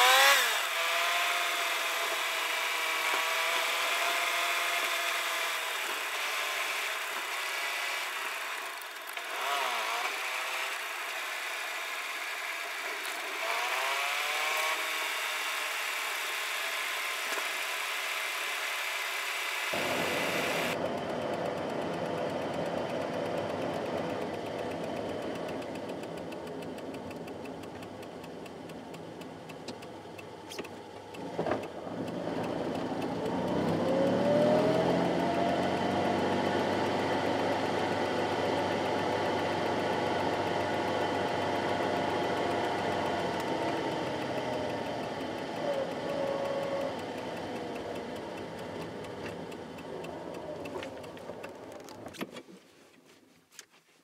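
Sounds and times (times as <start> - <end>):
car engine running: 0.0 - 52.4.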